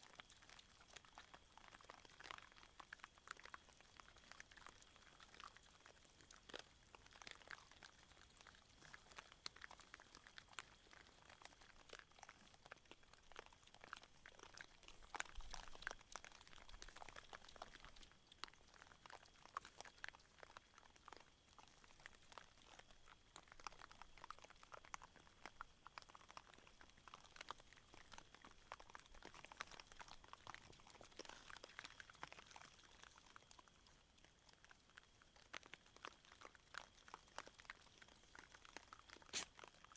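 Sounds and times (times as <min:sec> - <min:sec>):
boar crunching maize: 0:00.0 - 0:39.9.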